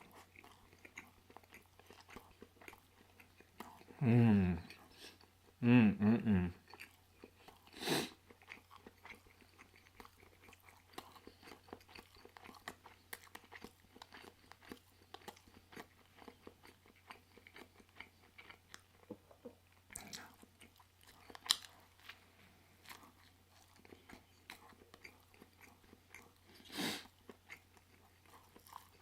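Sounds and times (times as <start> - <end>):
chewing and mouth smacks: 0.0 - 4.0, 6.6 - 22.2, 22.8 - 29.0.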